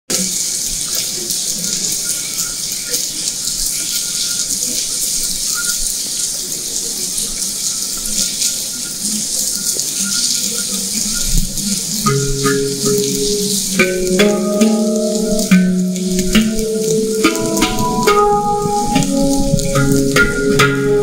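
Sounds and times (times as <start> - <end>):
rain on wet pavement: 0.1 - 21.0.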